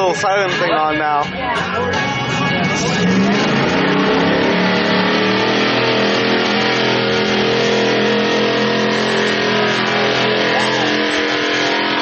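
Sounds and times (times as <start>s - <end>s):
truck engine running under load: 1.9s - 12.0s.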